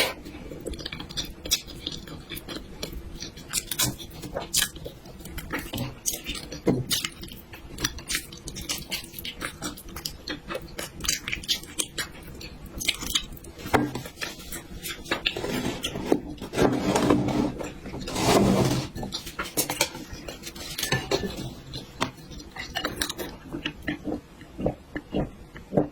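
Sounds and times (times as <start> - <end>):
chewing: 0.0 - 16.7, 18.9 - 25.9.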